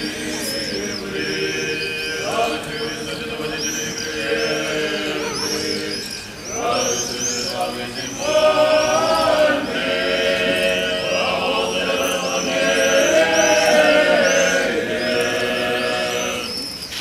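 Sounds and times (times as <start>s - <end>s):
men chanting a hymn: 0.0s - 16.8s
small birds chirping: 0.0s - 17.0s.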